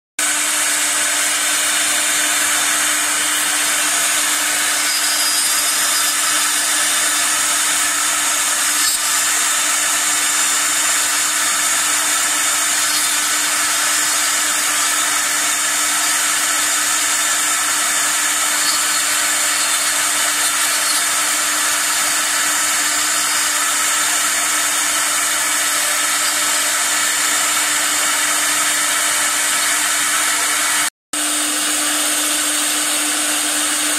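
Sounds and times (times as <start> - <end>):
carving bit hissing through wood: 0.2 - 33.9
router spindle hum: 0.2 - 33.9.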